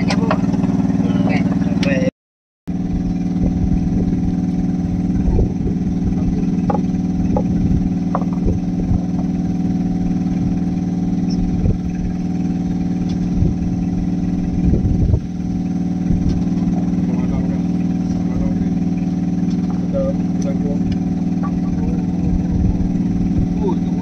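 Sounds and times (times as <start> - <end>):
boat engine idling: 0.0 - 2.1, 2.7 - 24.0.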